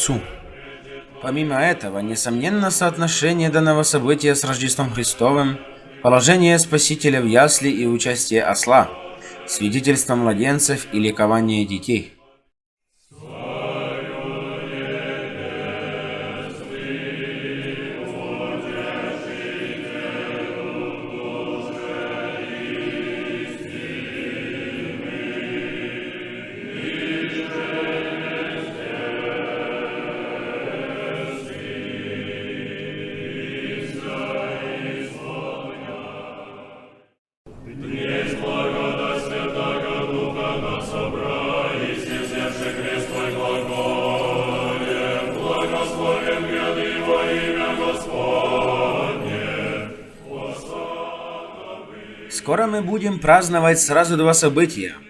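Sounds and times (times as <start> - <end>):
choir singing a chant: 0.0 - 12.4, 13.1 - 55.0.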